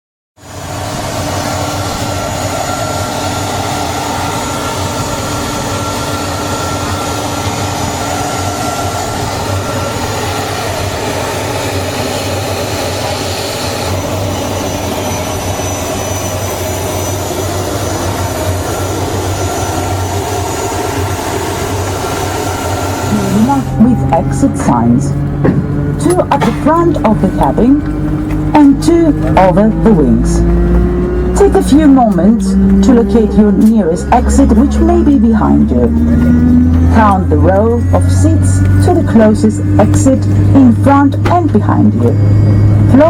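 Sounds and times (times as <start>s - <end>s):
jet aircraft cabin noise: 0.4s - 43.0s.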